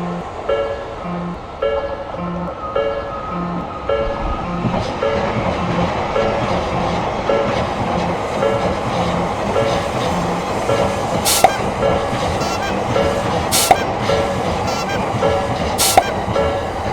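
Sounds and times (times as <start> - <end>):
level crossing warning bell: 0.0 - 16.9
train rumble and wheel clatter: 0.0 - 16.9.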